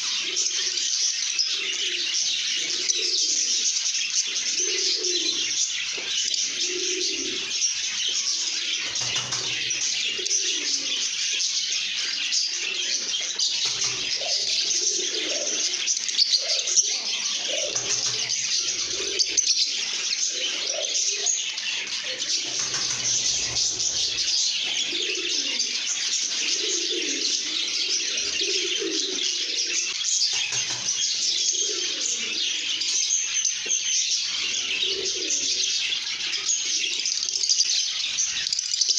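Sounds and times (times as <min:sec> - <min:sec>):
lovebirds chattering and chirping: 0:00.0 - 0:38.9.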